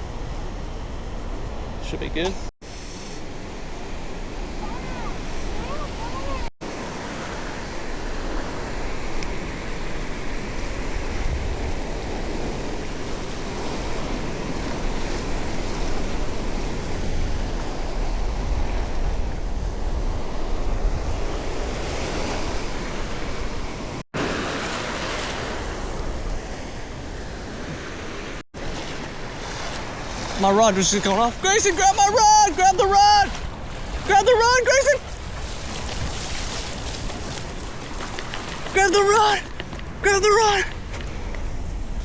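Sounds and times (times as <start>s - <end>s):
wind rumbling on microphone: 0.0s - 38.8s, 40.7s - 42.0s
surf breaking on beach: 1.4s - 42.0s.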